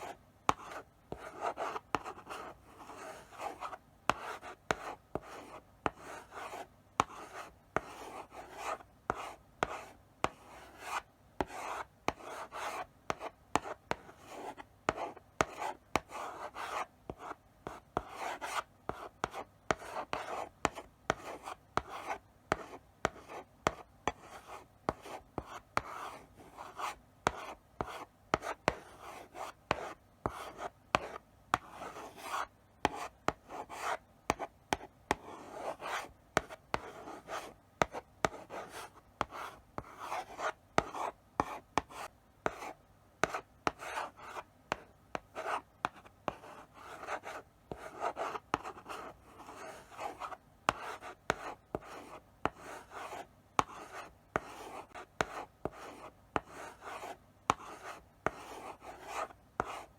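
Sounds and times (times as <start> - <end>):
chalk scratching on blackboard: 0.0 - 59.9.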